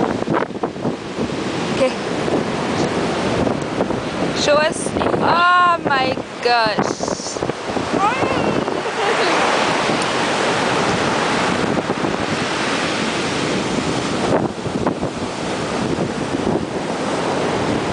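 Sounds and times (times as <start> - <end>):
ocean surf breaking on beach: 0.0 - 17.9
wind buffeting microphone: 0.0 - 17.9.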